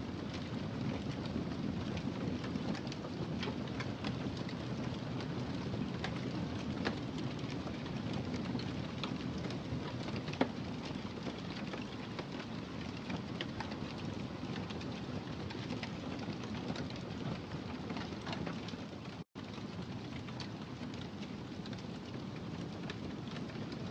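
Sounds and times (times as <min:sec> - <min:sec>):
wood fire crackling: 0:00.1 - 0:23.9.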